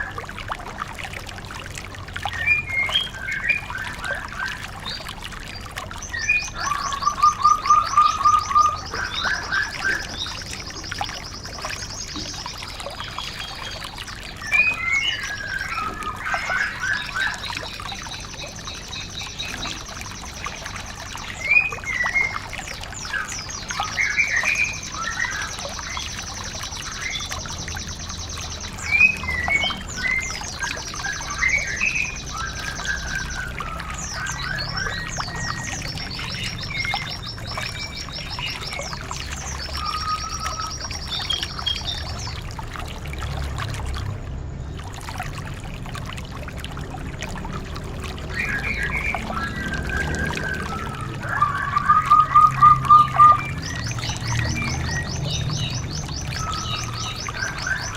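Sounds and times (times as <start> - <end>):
songbirds trilling and chirping: 0.0 - 57.9
trickle of running water: 0.0 - 57.9.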